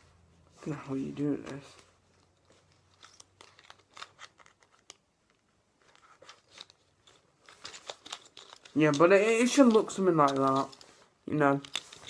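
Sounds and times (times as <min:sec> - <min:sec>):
plastic card clicks and crinkles: 0:01.4 - 0:12.0.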